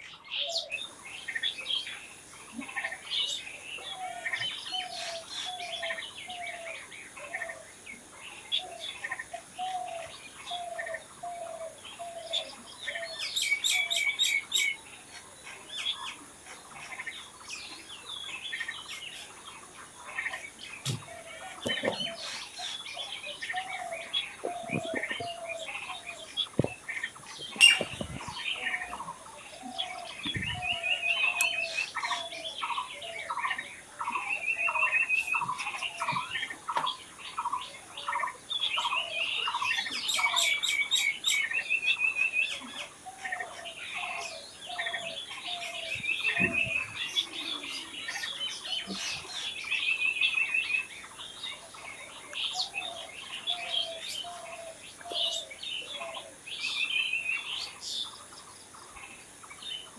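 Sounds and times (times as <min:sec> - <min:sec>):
wild birds singing and calling: 0:00.0 - 0:59.9.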